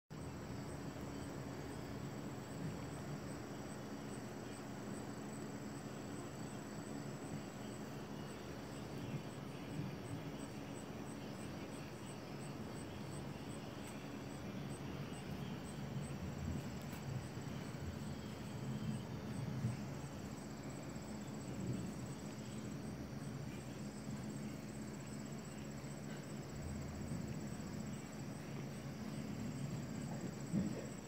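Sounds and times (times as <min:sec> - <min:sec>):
low outdoor background noise: 0:00.1 - 0:31.0
insects trilling: 0:00.2 - 0:31.0.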